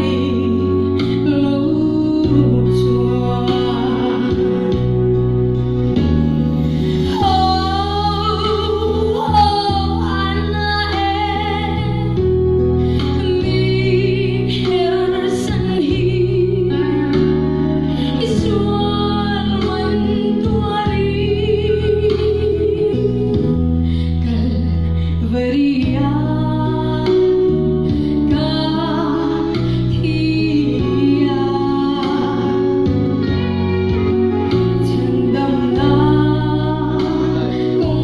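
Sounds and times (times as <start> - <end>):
woman singing slow song: 0.0 - 5.4, 6.8 - 38.0.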